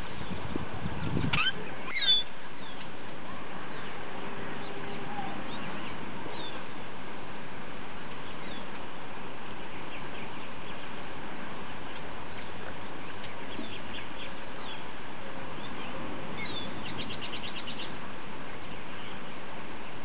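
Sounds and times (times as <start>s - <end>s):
birds chirping: 0.0s - 6.9s, 8.1s - 20.0s.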